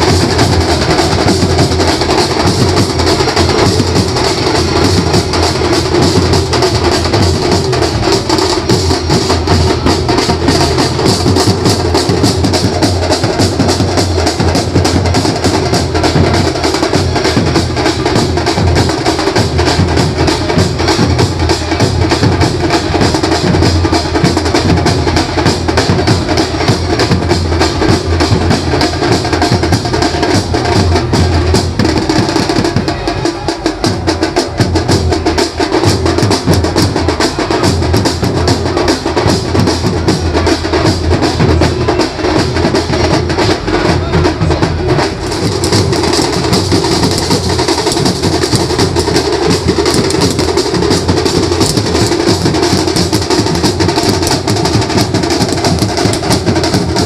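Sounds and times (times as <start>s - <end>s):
band playing procession music: 0.0s - 57.0s
fast drumming: 0.0s - 57.0s.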